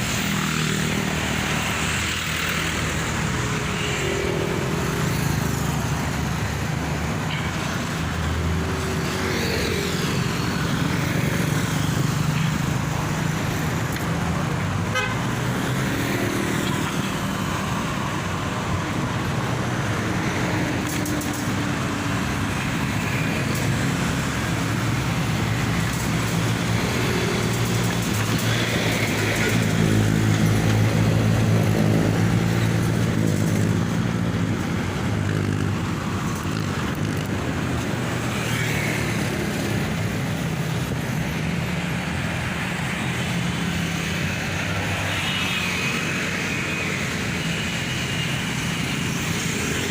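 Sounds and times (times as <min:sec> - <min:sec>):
tyre and road noise: 0:00.0 - 0:49.9
vehicle engines humming: 0:00.0 - 0:49.9.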